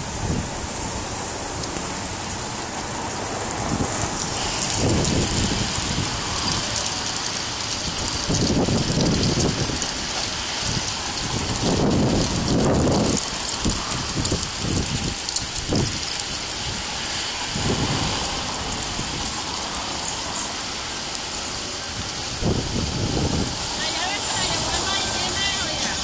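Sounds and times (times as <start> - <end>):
rain hissing: 0.0 - 26.0
wind gusting against microphone: 0.0 - 26.0.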